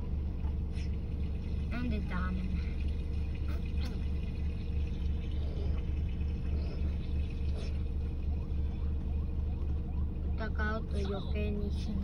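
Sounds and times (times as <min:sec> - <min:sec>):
low pulsing rumble: 0:00.0 - 0:12.0.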